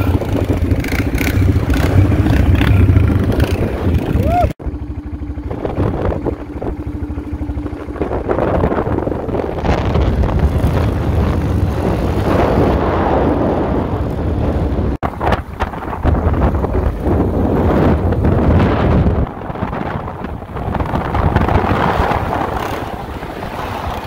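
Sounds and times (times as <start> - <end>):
atv engine running: 0.0 - 24.0
wind buffeting microphone: 0.0 - 24.0.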